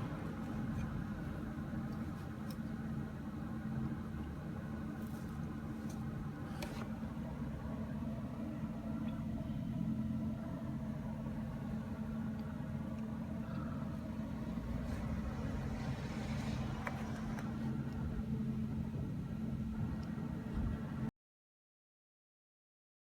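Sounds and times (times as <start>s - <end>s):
car engine running steadily: 0.0s - 21.1s.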